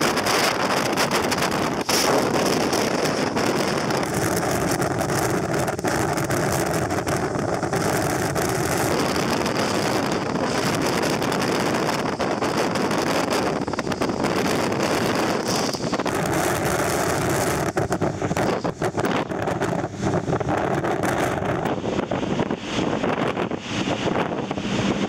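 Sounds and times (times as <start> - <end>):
water rushing past boat: 0.0 - 25.0
wind buffeting microphone: 0.0 - 25.0.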